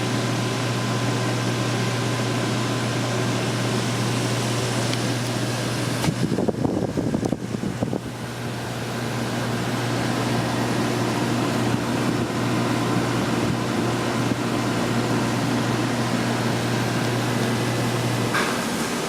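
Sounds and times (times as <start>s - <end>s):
blower air noise: 0.0s - 19.0s
heat pump humming: 0.0s - 19.0s.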